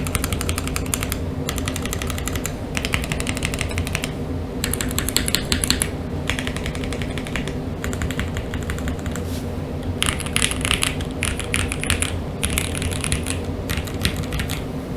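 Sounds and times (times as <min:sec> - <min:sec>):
typing on mechanical keyboard: 0:00.0 - 0:09.2, 0:10.0 - 0:14.6.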